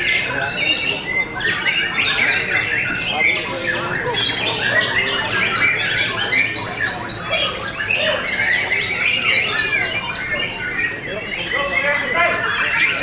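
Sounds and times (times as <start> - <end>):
birds singing whistles and chatter: 0.0 - 13.0.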